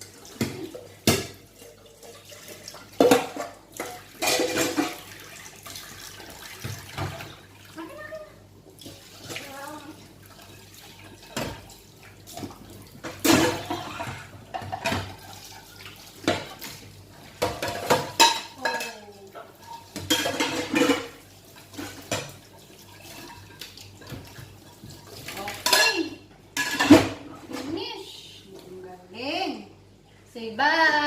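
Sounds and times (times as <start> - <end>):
plates and cutlery clattering in sink: 0.0 - 7.6, 8.8 - 27.9
tap water running: 0.0 - 27.9.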